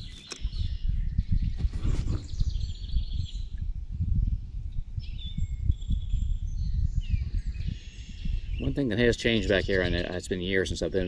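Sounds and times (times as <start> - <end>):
songbirds singing: 0.0 - 11.0
wind gusting over microphone: 0.0 - 11.0.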